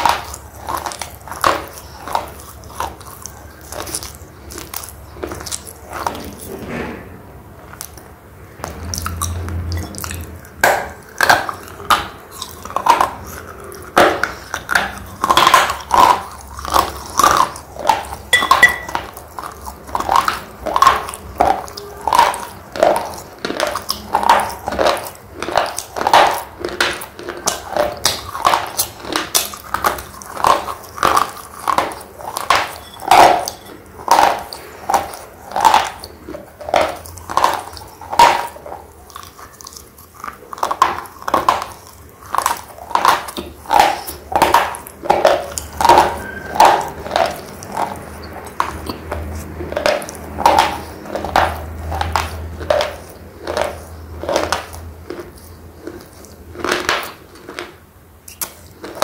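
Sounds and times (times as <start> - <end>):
slate pencil being chewed: 0.0 - 6.6, 8.6 - 59.0.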